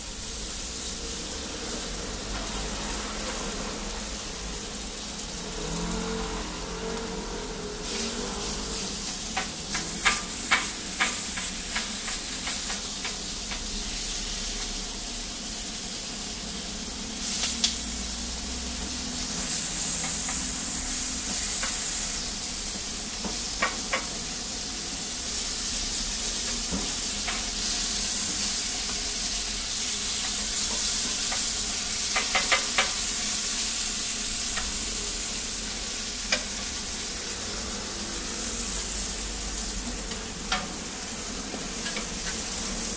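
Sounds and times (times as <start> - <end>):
food sizzling on a griddle: 0.0 - 42.9.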